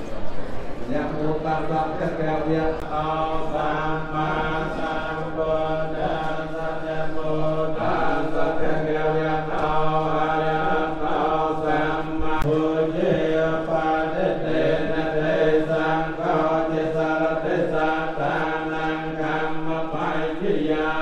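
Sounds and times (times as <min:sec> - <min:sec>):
monks chanting in unison: 0:00.9 - 0:21.0.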